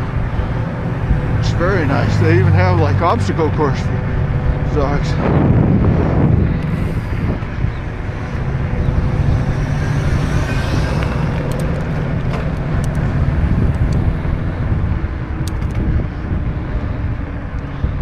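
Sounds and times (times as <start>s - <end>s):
road noise rumble: 0.0s - 18.0s
wind on microphone: 0.0s - 18.0s.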